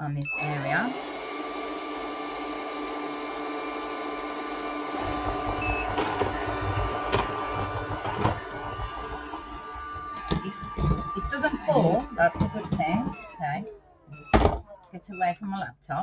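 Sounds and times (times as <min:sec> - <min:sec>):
robot vacuum motor hum: 0:00.3 - 0:14.6.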